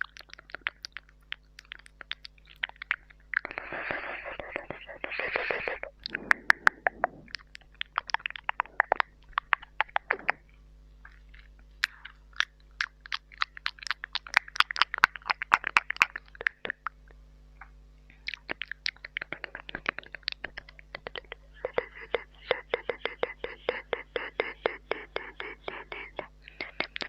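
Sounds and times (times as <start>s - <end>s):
wet mouth clicks and smacks: 0.0s - 27.0s.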